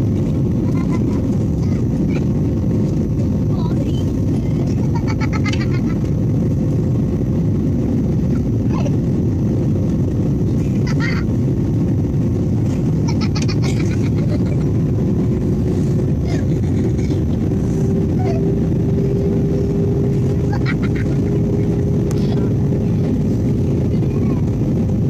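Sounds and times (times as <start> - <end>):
airliner cabin roar: 0.0 - 25.0
steady hum: 0.0 - 25.0.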